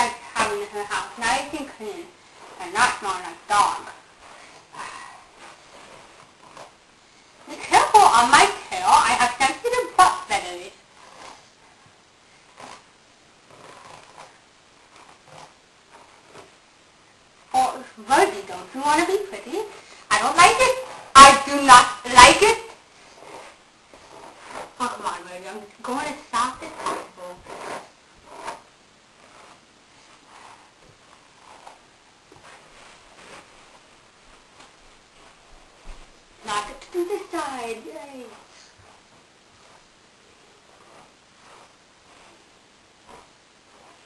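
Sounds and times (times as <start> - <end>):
brush swishing through fur: 0.4 - 16.7, 18.1 - 44.0.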